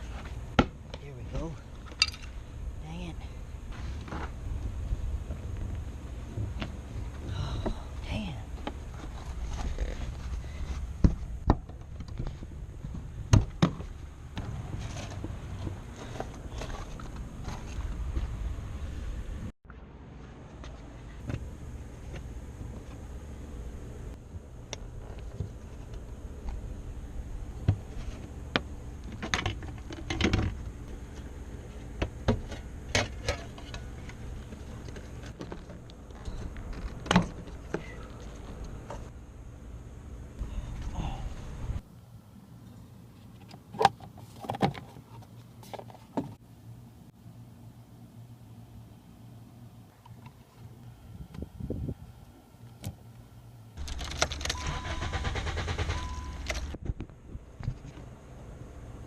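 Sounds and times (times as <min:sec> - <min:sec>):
low steady rumble: 0:00.0 - 0:43.4, 0:46.4 - 0:59.0.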